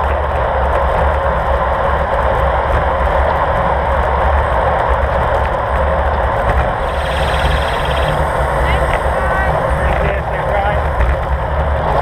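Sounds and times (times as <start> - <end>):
road noise rumble: 0.0 - 12.0
wind buffeting microphone: 1.6 - 12.0.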